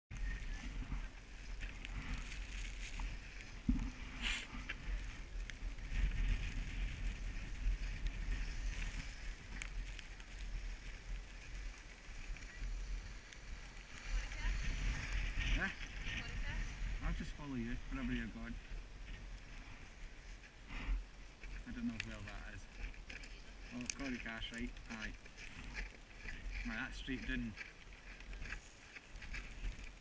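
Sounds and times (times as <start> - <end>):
wind buffeting microphone: 0.1 - 30.0.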